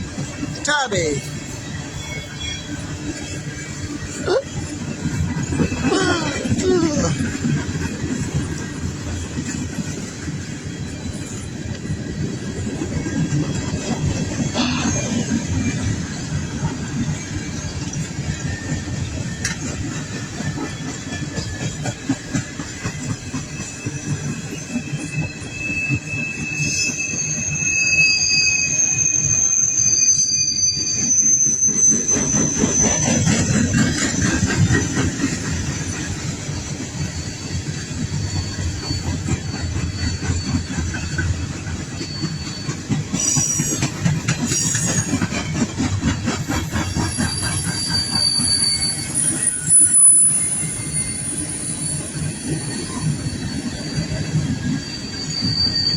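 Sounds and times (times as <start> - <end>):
train wheels rumbling and clattering: 0.0 - 55.9
high-pitched wheel squeals: 1.4 - 7.5, 14.0 - 55.9.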